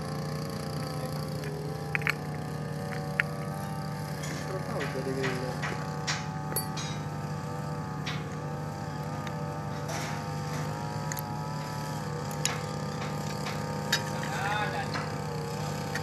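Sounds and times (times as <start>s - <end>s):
brush cutter engine idling: 0.0s - 16.0s.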